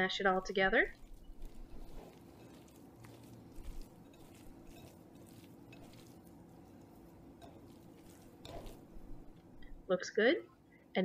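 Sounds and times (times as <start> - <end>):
low steady hum: 0.0 - 11.0
wet squishing of bread mashed by hand: 0.5 - 9.8.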